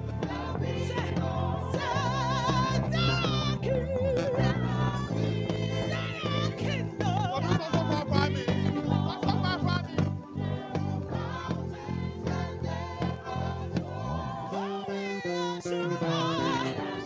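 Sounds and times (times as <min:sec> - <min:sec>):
electric bass guitar line: 0:00.0 - 0:17.0
voices singing: 0:00.0 - 0:17.0.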